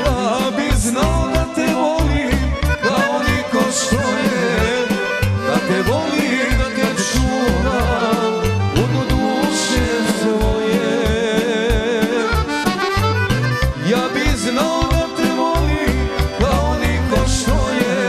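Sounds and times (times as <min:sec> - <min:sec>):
accordion melody: 0:00.0 - 0:18.0
steady bass beat: 0:00.1 - 0:17.8.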